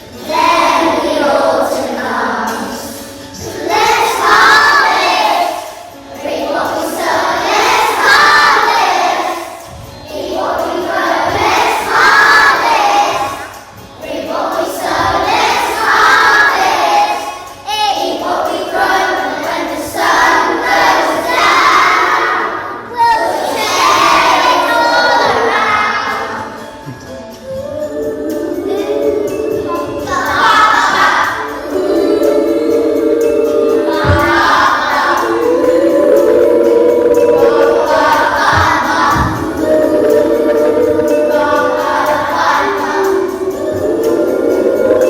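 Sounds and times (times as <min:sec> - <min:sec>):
children singing together: 0:00.0 - 0:45.0.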